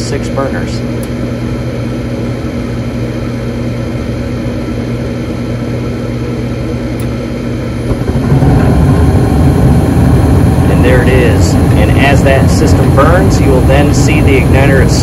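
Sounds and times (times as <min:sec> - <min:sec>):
furnace inducer motor hum: 0:00.0 - 0:15.0
gas flame rumbling rush: 0:00.0 - 0:15.0.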